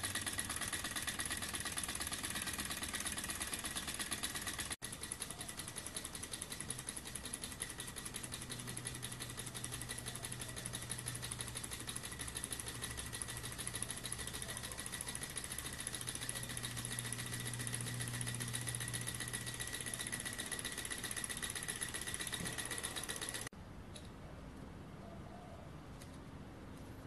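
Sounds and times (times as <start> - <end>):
engine ticking clatter: 0.0 - 23.5.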